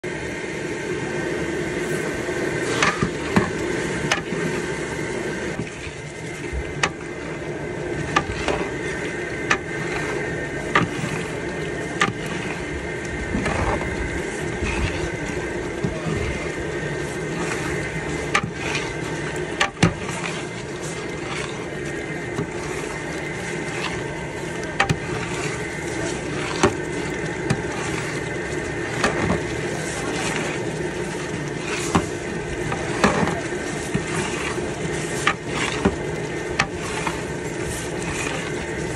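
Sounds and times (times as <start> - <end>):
gas burner hiss: 0.1 - 38.9
onions sizzling in a pot: 0.1 - 38.9.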